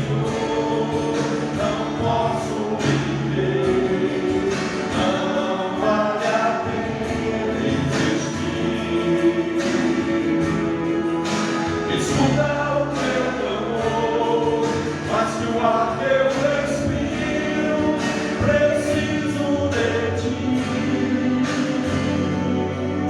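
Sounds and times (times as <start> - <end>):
instrumental backing with beat: 0.0 - 23.0
voices singing gospel song: 0.0 - 23.0.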